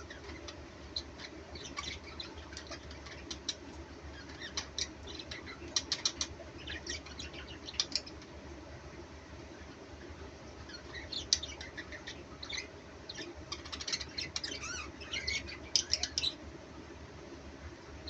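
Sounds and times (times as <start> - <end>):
birds chirping: 0.0 - 16.6
air cooler humming: 0.0 - 18.0.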